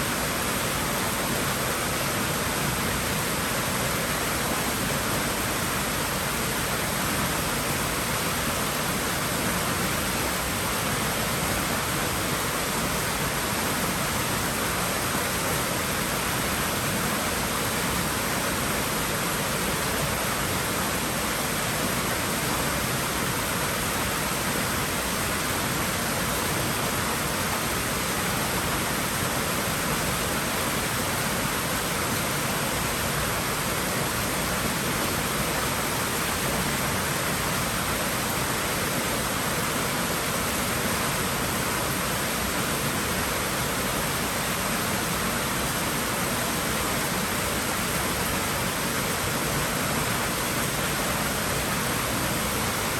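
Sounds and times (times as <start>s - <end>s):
water rushing in a pool: 0.0s - 52.9s.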